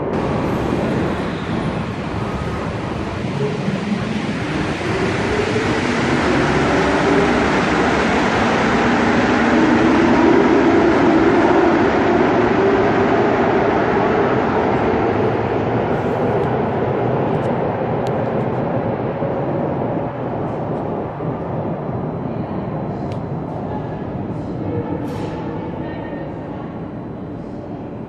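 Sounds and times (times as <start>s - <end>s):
metro train rumbling: 0.0s - 28.0s.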